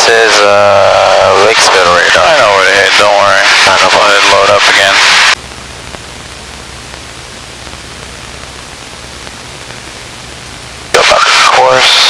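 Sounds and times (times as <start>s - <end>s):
intercom static hiss: 0.0s - 12.0s.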